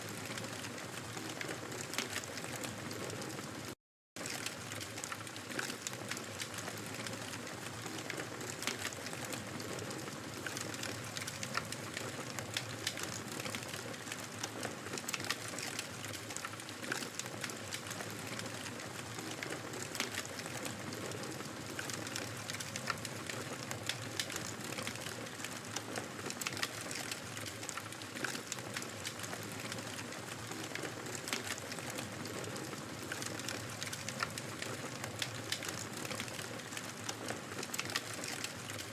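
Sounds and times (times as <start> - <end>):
wood fire crackling and popping: 0.0 - 3.5, 4.2 - 38.9.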